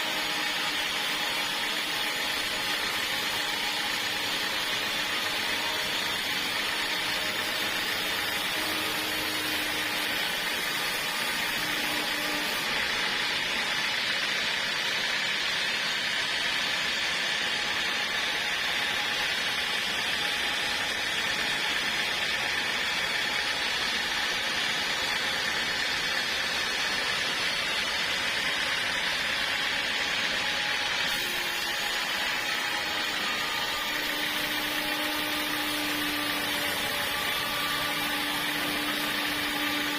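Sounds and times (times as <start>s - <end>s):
sawmill sawing through log: 0.0s - 39.9s.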